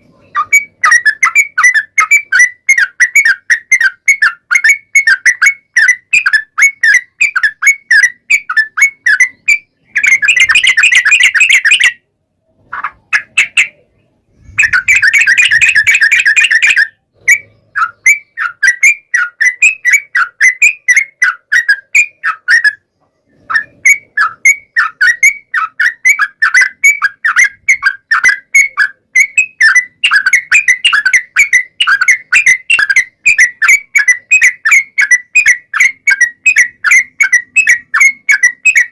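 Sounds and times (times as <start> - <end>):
bird chirping: 0.0 - 38.9
bird rapid trill: 0.0 - 38.9.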